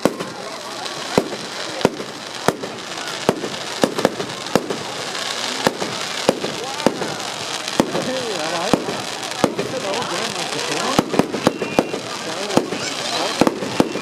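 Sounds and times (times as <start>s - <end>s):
faint voices: 0.0s - 14.0s
fireworks bangs: 0.0s - 14.0s.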